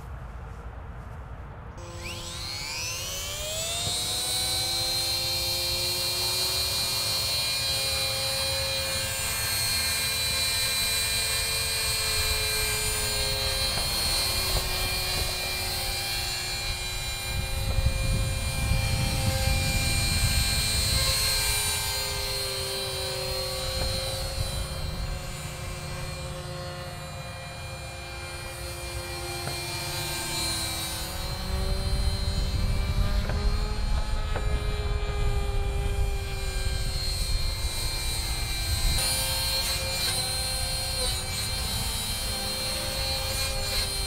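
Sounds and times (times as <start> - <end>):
rc helicopter motor whine: 1.8 - 44.0
rotor blades humming: 1.8 - 44.0.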